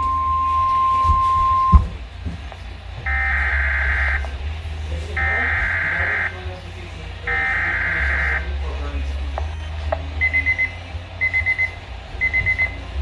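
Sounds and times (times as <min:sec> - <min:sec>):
low hum: 0:00.0 - 0:13.0
steady warning tone: 0:00.0 - 0:13.0.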